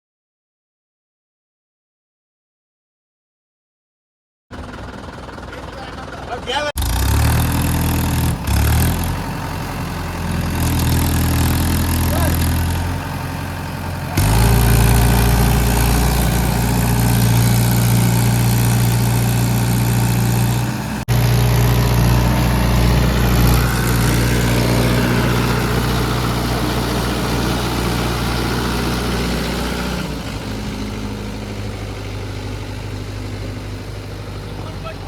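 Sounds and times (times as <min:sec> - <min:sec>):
heavy diesel engine running: 0:04.5 - 0:35.0.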